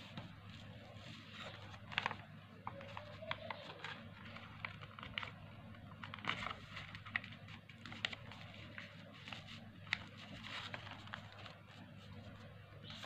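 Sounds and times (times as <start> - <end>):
low steady hum: 0.0 - 13.0
paper crinkling: 0.0 - 13.0.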